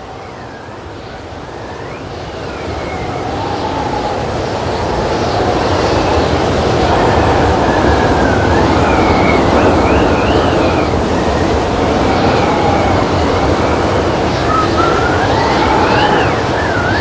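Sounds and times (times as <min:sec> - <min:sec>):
wavering whistling tones: 0:00.0 - 0:17.0
loud rushing noise: 0:01.2 - 0:17.0.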